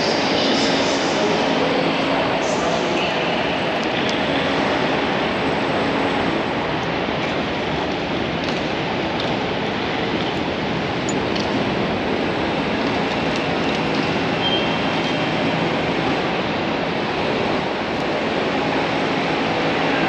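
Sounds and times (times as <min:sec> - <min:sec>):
traffic and car engines: 0:00.0 - 0:20.0.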